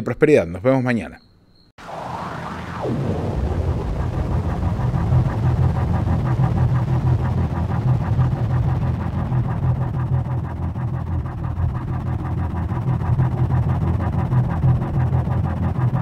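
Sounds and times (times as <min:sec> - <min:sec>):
fast pulsing texture: 0:01.8 - 0:16.0
low droning rumble: 0:01.8 - 0:16.0.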